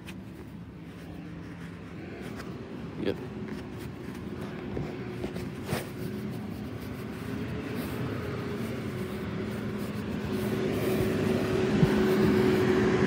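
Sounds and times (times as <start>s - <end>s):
truck engine approaching: 0.0s - 13.0s.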